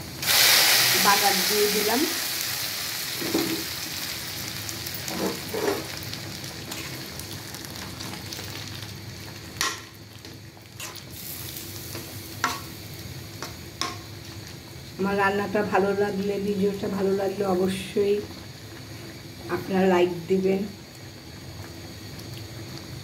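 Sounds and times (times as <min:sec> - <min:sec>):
spices sizzling in oil: 0:00.0 - 0:23.0.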